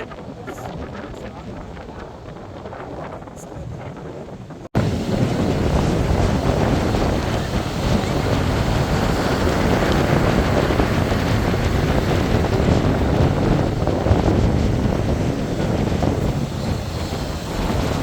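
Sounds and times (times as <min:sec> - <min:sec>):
surf washing: 0:00.0 - 0:18.0
wind buffeting microphone: 0:00.0 - 0:18.0.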